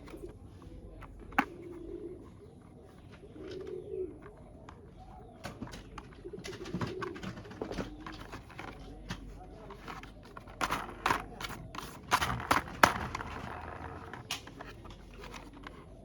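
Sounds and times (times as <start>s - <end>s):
pigeon cooing: 0.0s - 16.0s.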